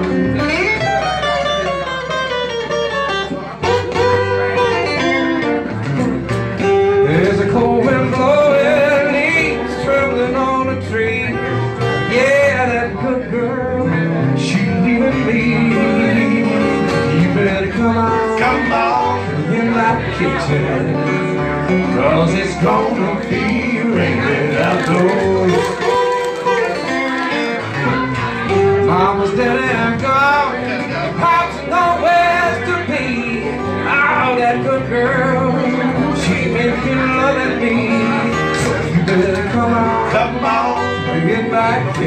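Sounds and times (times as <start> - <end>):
acoustic guitars strummed and picked: 0.0 - 42.0
sliding lead guitar line: 0.0 - 42.0
upright bass: 0.0 - 42.0.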